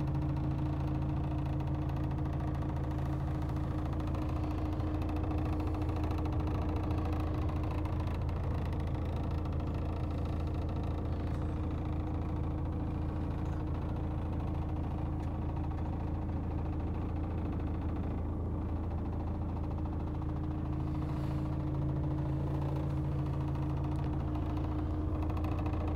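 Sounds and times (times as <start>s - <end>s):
truck diesel engine idling: 0.0s - 25.9s.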